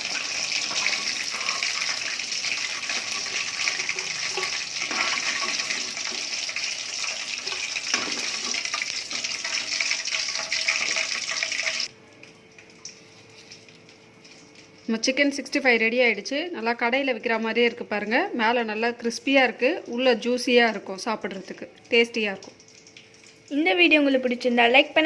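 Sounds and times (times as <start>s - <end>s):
food deep-frying in oil: 0.0s - 15.6s, 16.8s - 25.0s.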